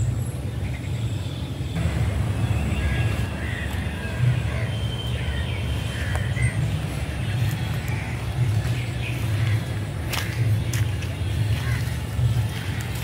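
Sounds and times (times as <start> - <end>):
low outdoor rumble: 1.7 - 13.0.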